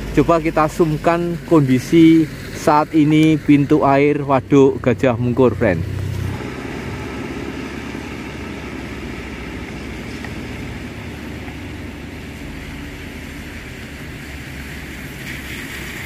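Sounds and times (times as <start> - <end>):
water rushing from dam spillway: 0.0 - 16.0.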